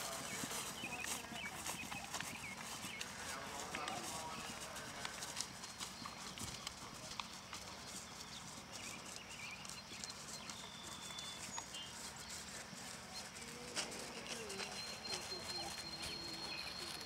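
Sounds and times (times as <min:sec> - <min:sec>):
hoofbeats on turf: 0:00.0 - 0:17.0
outdoor background noise: 0:00.0 - 0:17.0.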